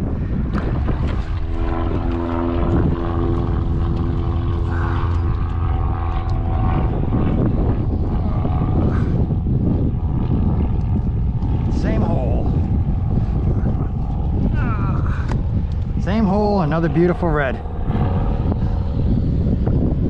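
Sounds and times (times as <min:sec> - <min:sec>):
motor droning: 0:00.0 - 0:20.0
wind rumble on microphone: 0:00.0 - 0:20.0.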